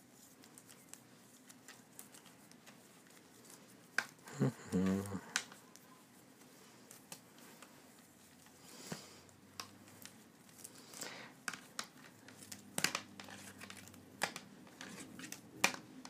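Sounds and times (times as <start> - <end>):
cables rustling and crinkling: 0.0 - 16.0.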